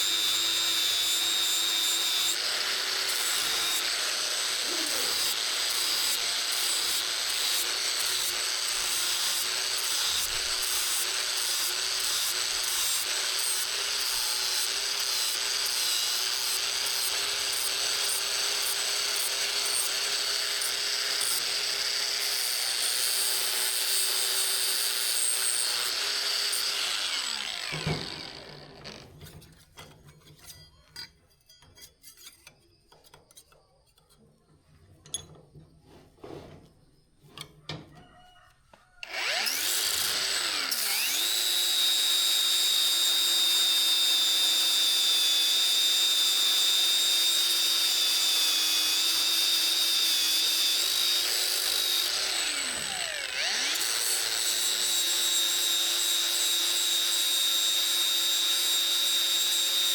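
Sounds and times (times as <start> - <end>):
power tool motor running: 0.0 - 29.1, 39.0 - 59.9.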